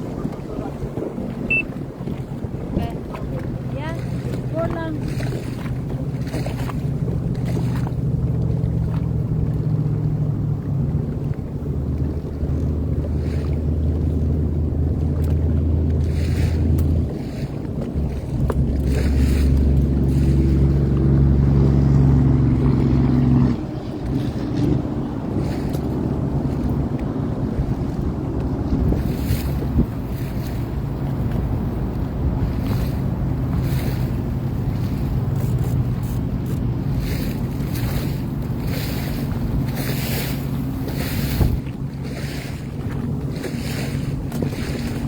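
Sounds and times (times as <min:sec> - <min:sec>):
personal watercraft engine running: 0:00.0 - 0:45.0
wind buffeting microphone: 0:00.0 - 0:45.0.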